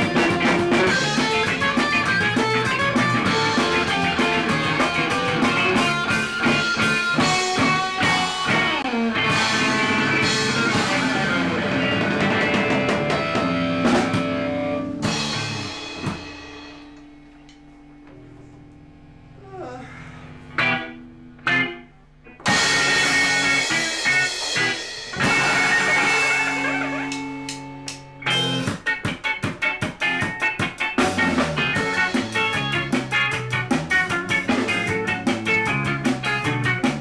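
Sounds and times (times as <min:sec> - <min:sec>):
drum kit playing: 0:00.0 - 0:19.3, 0:20.2 - 0:37.0
electric guitars: 0:00.0 - 0:37.0.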